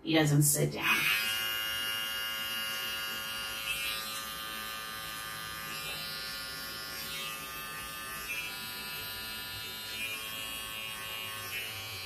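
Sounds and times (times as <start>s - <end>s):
pet trimmer buzzing: 0.8s - 12.0s.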